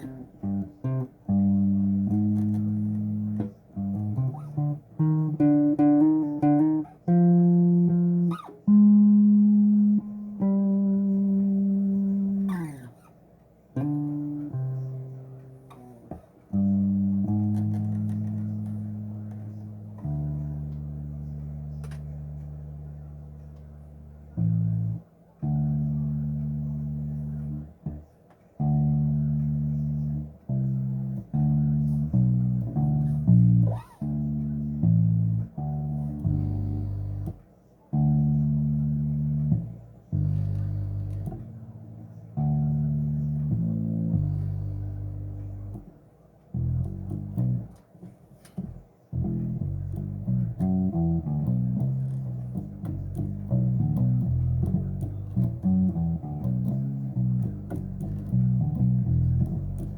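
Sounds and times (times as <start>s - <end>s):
plucked bass guitar notes: 0.0s - 13.1s, 13.7s - 47.9s, 48.5s - 59.9s.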